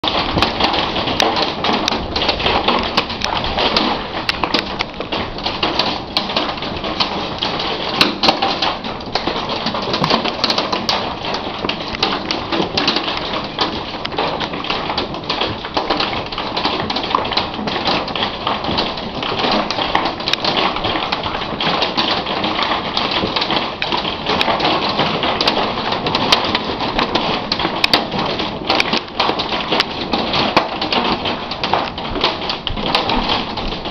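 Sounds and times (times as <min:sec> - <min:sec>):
hail clattering: 0:00.0 - 0:33.9.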